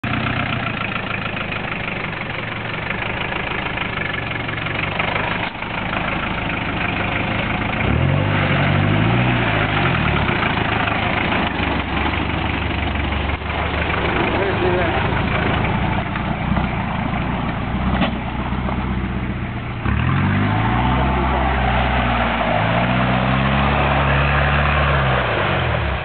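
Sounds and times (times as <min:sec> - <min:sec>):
pickup engine running at low revs: 0:00.0 - 0:26.0.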